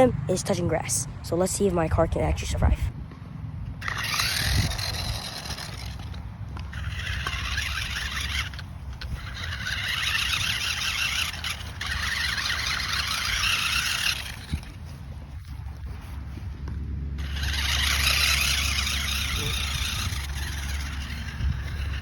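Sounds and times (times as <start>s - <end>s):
rc car swishing through grass: 3.8s - 16.6s, 17.2s - 22.0s.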